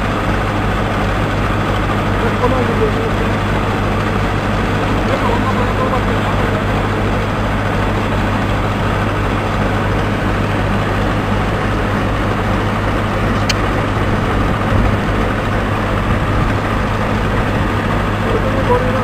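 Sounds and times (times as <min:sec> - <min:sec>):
heavy engine humming: 0:00.0 - 0:19.0.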